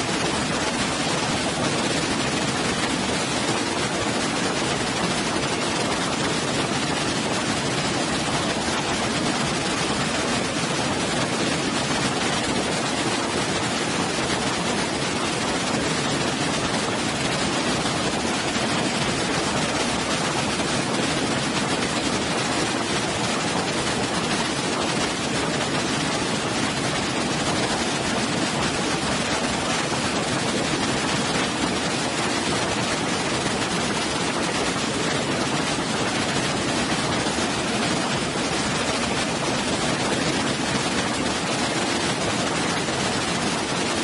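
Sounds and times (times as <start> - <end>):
waterfall rushing over rocks: 0.0 - 44.0.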